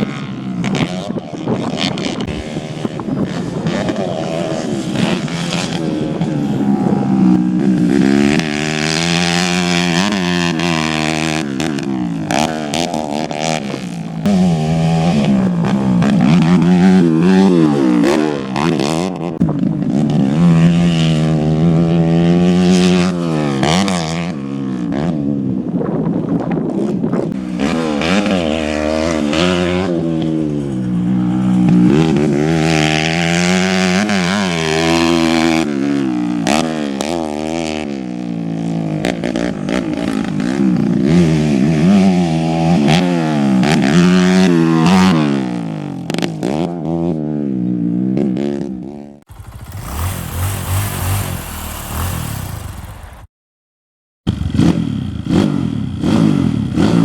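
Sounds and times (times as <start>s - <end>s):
motorcycle engines revving: 0.0s - 53.3s, 54.3s - 57.0s.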